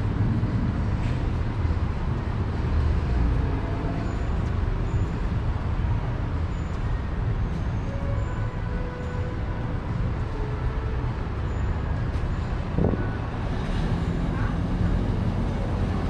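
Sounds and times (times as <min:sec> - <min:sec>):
low city rumble: 0:00.0 - 0:16.0
traffic noise: 0:00.0 - 0:16.0.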